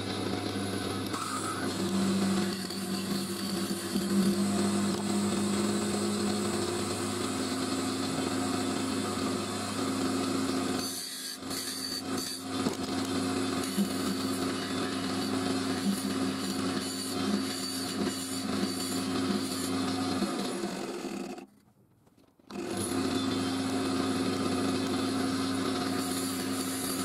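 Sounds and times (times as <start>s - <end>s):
wood lathe motor hum: 0.0s - 21.5s, 22.5s - 27.0s.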